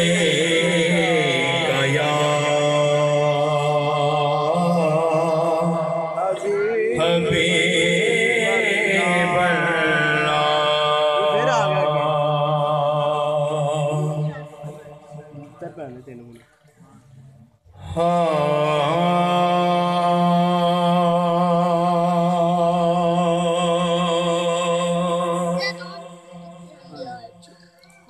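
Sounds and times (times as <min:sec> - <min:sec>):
man chanting into a microphone: 0:00.0 - 0:15.6, 0:17.7 - 0:27.4.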